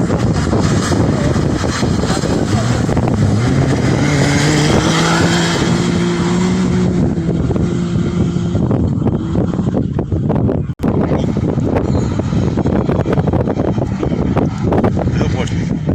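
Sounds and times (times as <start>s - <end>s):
rally vehicle engine running hard: 0.0s - 15.9s
wind noise on microphone: 0.0s - 15.9s.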